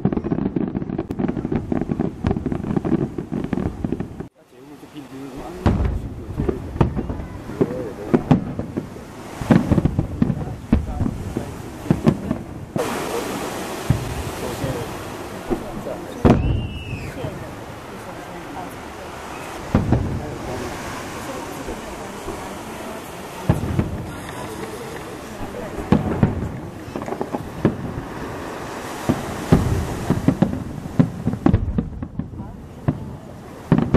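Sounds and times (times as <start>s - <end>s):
fireworks bangs with rumbling echo: 0.0s - 4.3s, 5.3s - 33.9s
steady rushing noise: 1.0s - 33.7s
spectators' voices: 4.4s - 33.9s.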